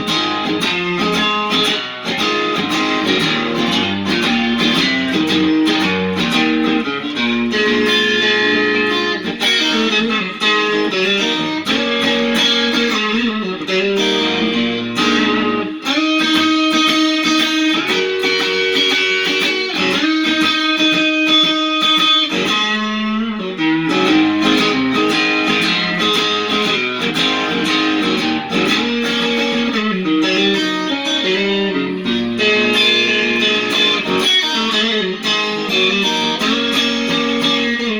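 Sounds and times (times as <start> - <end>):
overdriven electric guitar blues licks: 0.0 - 37.9.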